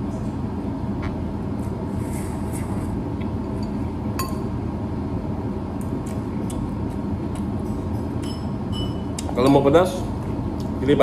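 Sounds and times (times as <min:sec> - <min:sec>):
extractor fan rumble: 0:00.0 - 0:11.0.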